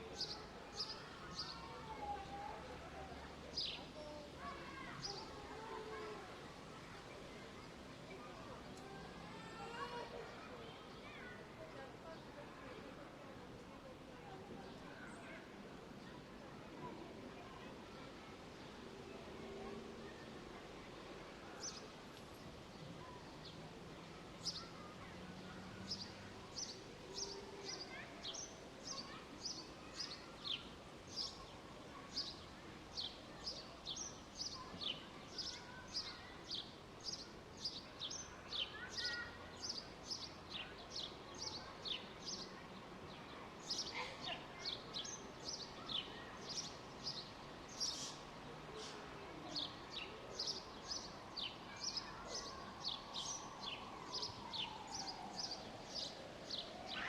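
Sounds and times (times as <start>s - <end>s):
park ambience hum: 0.0s - 57.0s.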